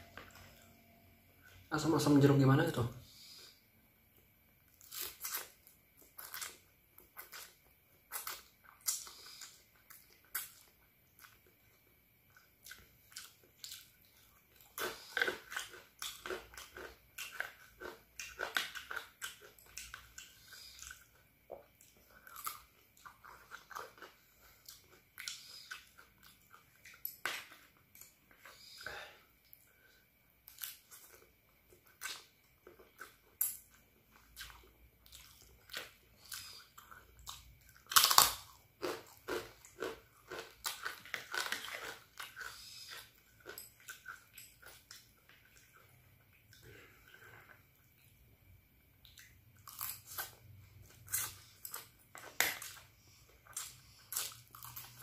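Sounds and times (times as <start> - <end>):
crunchy chewing and mouth smacking: 4.2 - 55.0.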